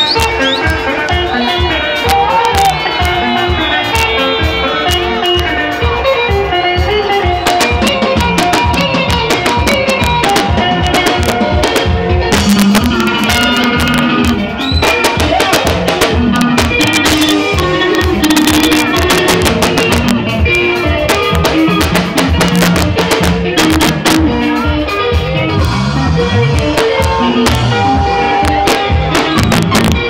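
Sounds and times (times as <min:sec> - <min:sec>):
bass guitar: 0:00.0 - 0:30.0
drum kit steady quick beat: 0:00.0 - 0:30.0
interlocking electric guitar lines: 0:00.0 - 0:30.0.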